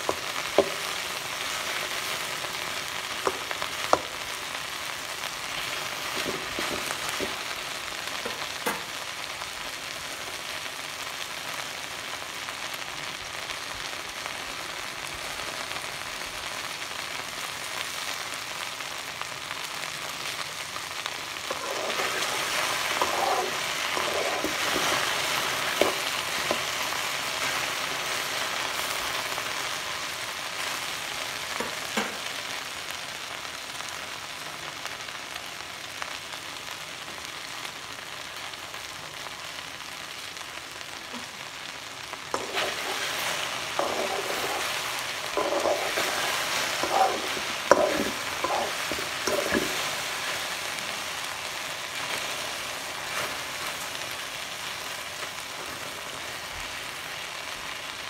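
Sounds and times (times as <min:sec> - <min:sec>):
okra sizzling in a pan: 0:00.0 - 0:58.0.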